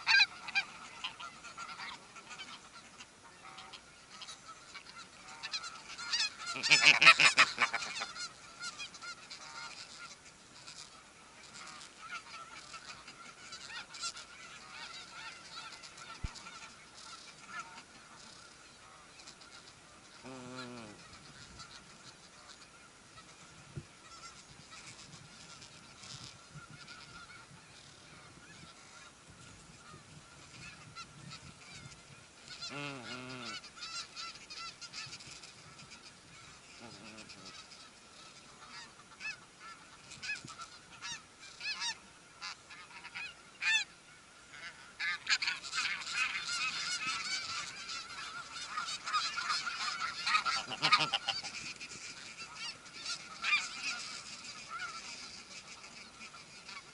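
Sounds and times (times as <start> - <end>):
distant goose calls: 0.0 - 56.9
geese honking: 0.0 - 56.9.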